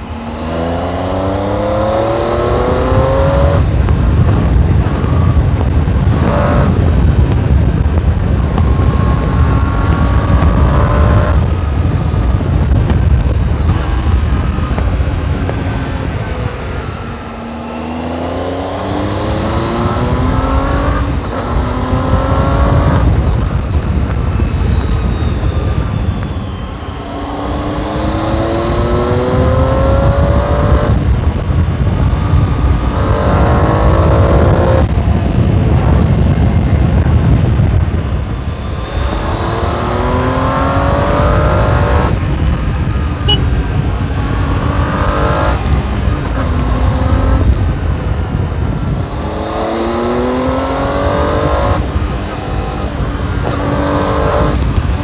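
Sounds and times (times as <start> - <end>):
motorcycle engine accelerating: 0.0 - 55.0
wind rushing over microphone: 0.0 - 55.0.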